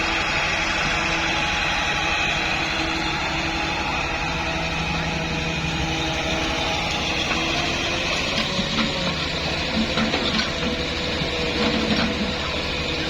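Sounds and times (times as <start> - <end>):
excavator engine running: 0.0 - 13.0
steady whining tones: 0.0 - 13.0.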